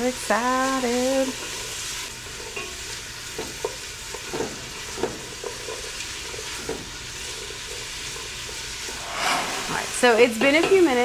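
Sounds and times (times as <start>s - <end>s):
vegetables sizzling in oil: 0.0s - 9.0s.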